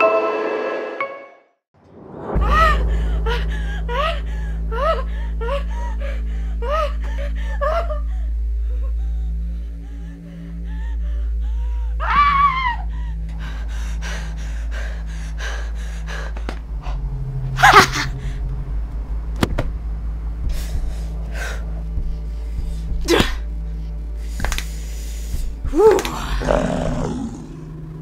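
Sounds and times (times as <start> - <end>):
low music drone: 1.9 - 28.0.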